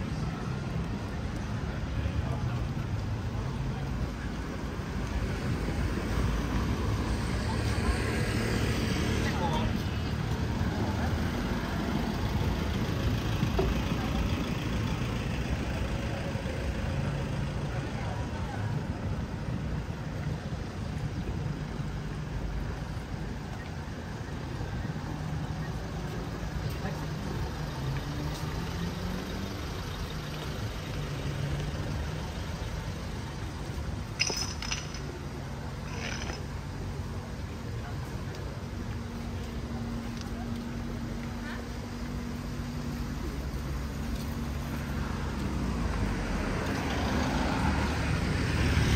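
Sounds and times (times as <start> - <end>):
faint voices: 0.0 - 48.1
road traffic hum: 0.0 - 48.9
wind: 0.0 - 48.9.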